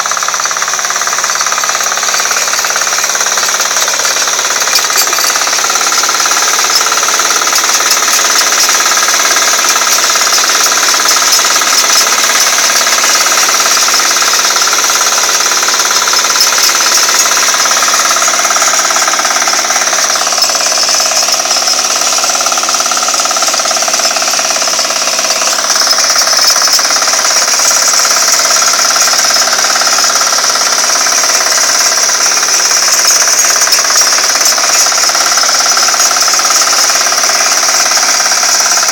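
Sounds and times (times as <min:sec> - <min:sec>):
tiller engine running under load: 0:00.0 - 0:38.9.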